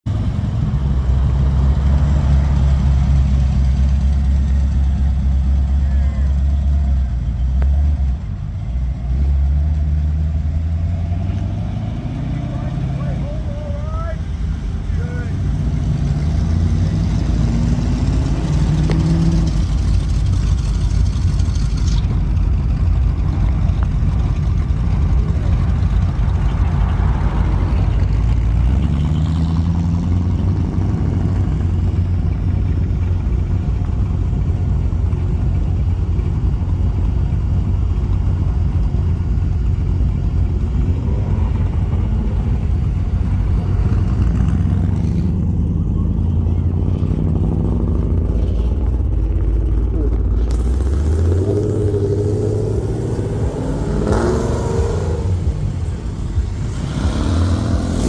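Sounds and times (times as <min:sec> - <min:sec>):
car engines rumbling: 0:00.0 - 0:58.0.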